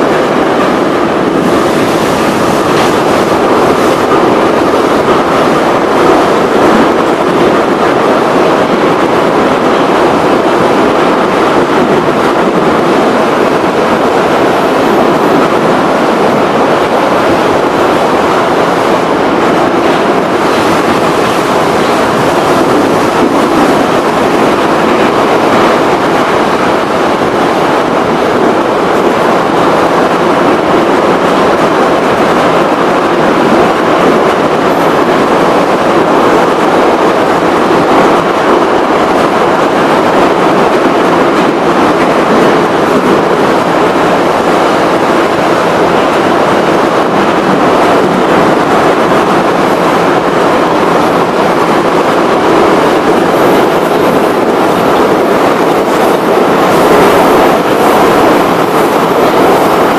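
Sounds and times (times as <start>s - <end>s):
subway wheels rumbling on rails: 0.0s - 59.9s.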